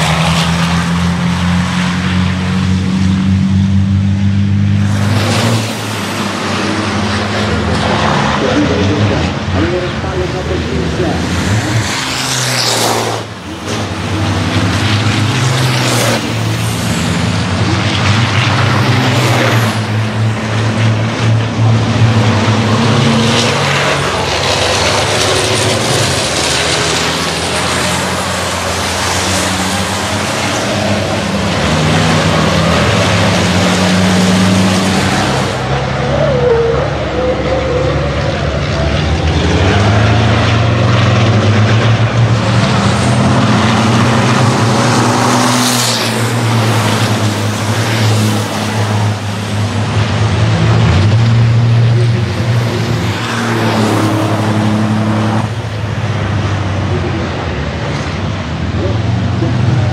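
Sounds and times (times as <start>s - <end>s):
racing truck diesel engines: 0.0s - 59.9s.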